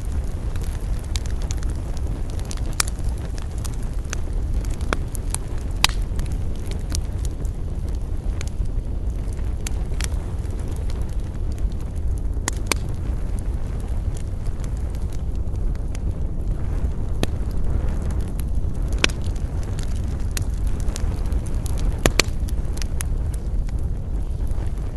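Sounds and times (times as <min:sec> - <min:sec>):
campfire crackling and popping: 0:00.0 - 0:24.9
low rumble of wind: 0:00.0 - 0:24.9.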